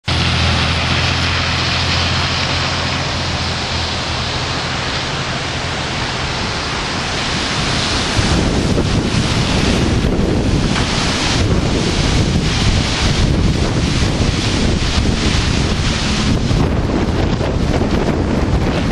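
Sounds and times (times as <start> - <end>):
rain hiss: 0.0 - 18.9
wind: 0.0 - 18.9.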